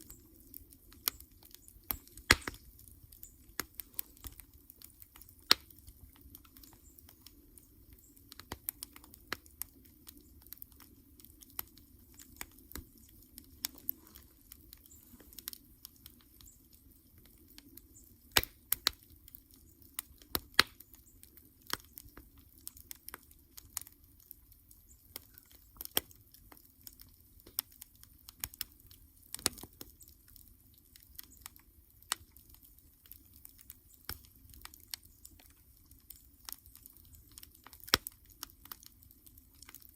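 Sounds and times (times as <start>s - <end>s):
campfire crackling: 0.0s - 39.9s
faint low hiss: 0.0s - 39.9s.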